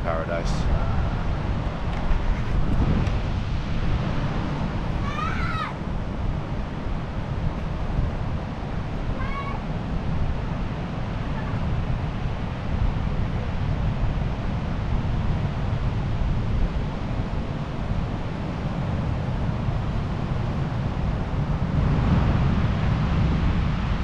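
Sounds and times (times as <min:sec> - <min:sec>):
ocean surf washing ashore: 0:00.0 - 0:24.0
wind buffeting microphone: 0:00.0 - 0:24.0.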